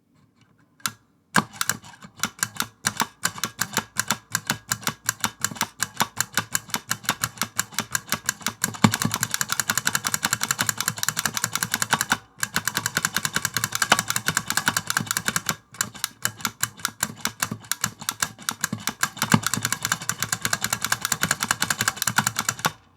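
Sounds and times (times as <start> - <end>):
clicky keyboard typing: 0.8 - 22.9.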